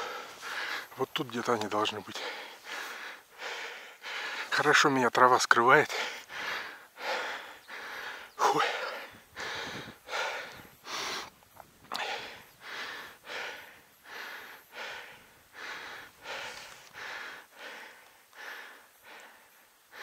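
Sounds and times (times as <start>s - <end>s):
man breathing hard: 0.0s - 1.0s, 2.2s - 4.6s, 5.9s - 20.0s.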